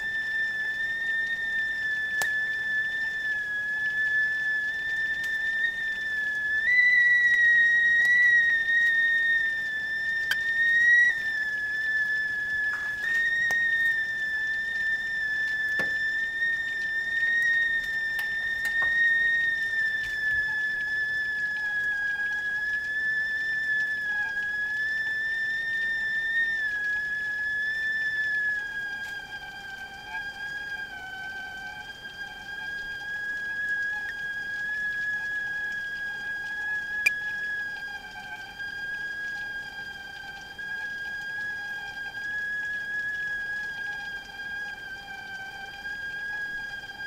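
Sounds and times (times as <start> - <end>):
whistling kettle: 0.0 - 47.0.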